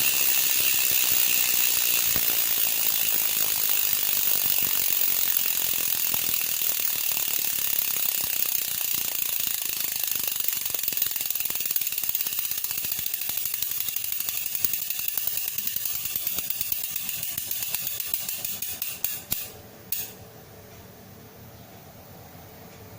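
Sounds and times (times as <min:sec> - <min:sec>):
bicycle freehub clicking: 0:00.0 - 0:20.2.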